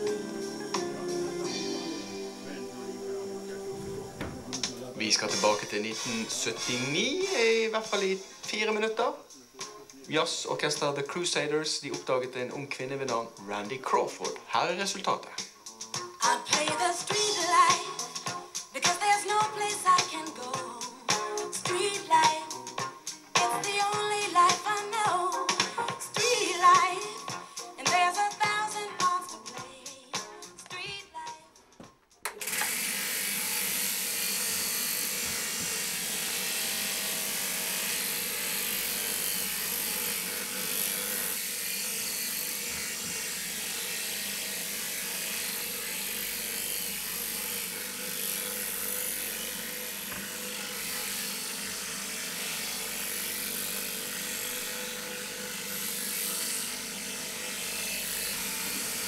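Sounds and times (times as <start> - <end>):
electric shears buzzing: 0.0 - 14.3, 15.6 - 29.6, 32.3 - 59.0
music: 0.0 - 59.0.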